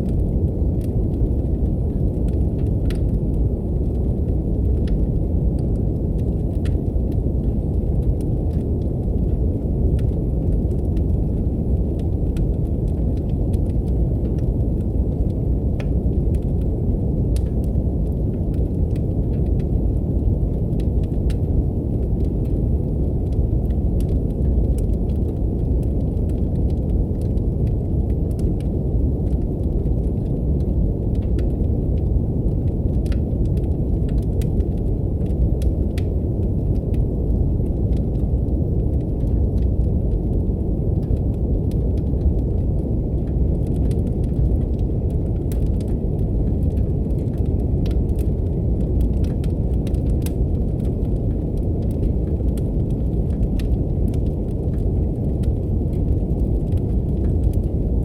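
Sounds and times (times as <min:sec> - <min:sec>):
brown noise rumbling hiss: 0:00.0 - 0:58.0
crackling wood fire: 0:00.0 - 0:58.0.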